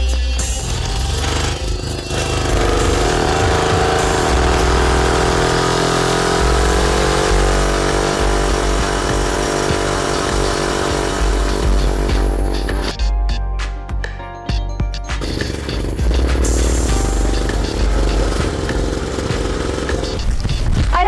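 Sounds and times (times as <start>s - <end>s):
small motorbike engine running: 0.4s - 12.9s, 15.2s - 20.7s.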